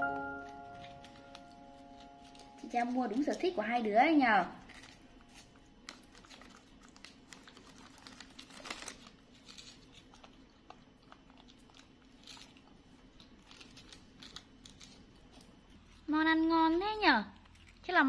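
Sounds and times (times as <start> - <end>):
snack wrapper crinkling: 0.3 - 3.6, 4.6 - 16.1
biscuits crunching being chewed: 0.4 - 3.6, 4.6 - 18.0.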